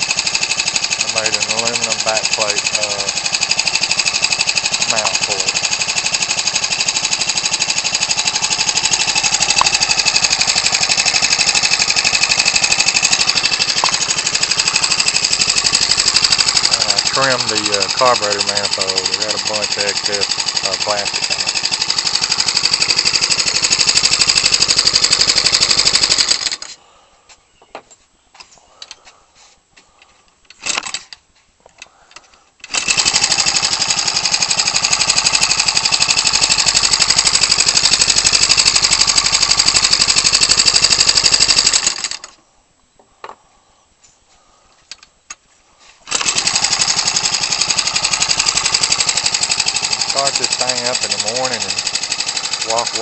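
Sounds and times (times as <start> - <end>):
model aircraft engine buzzing: 0.0 - 26.8, 32.6 - 42.4, 46.0 - 53.0.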